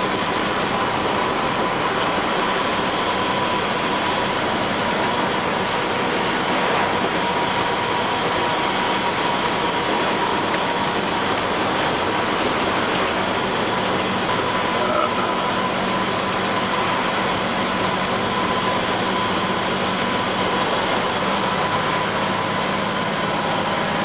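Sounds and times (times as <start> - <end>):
bus engine and road noise: 0.0 - 24.0
steady whine: 0.0 - 24.0.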